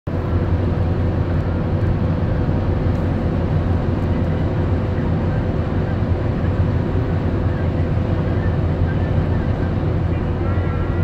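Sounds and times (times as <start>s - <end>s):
car engine running: 0.1s - 11.0s
tyres rumbling on road: 0.1s - 11.0s.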